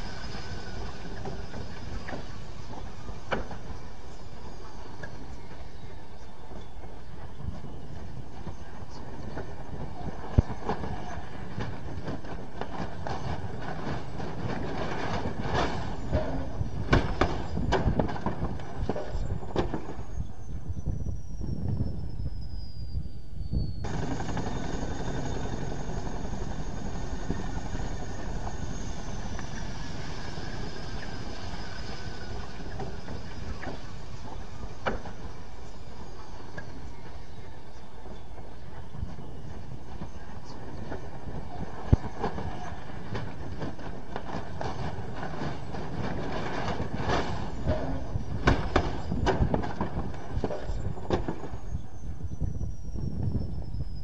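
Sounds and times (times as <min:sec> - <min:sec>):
helicopter rotor and engine noise: 0:00.0 - 0:54.0
helicopter turbine whine: 0:00.0 - 0:54.0.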